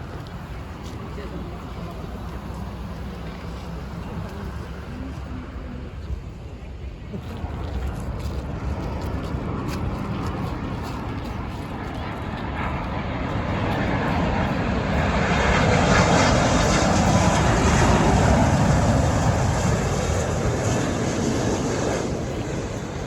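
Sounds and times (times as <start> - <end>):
jet engines passing: 0.0 - 23.0.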